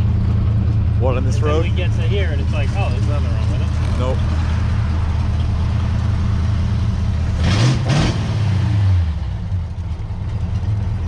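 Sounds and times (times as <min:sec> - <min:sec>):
car engine running: 0:00.0 - 0:11.0
road noise inside car: 0:00.0 - 0:11.0.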